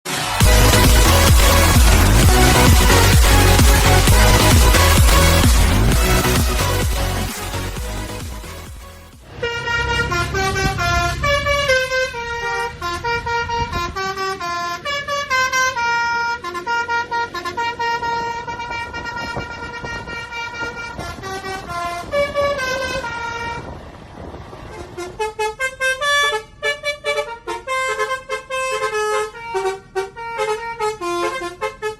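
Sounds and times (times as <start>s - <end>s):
bus horn playing a melody: 0.1s - 31.9s
bus engine low rumble: 0.2s - 31.9s.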